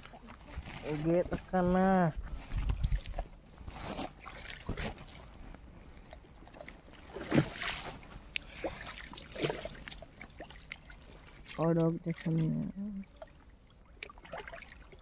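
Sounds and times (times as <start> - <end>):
cloth splashing in water: 2.4 - 15.0.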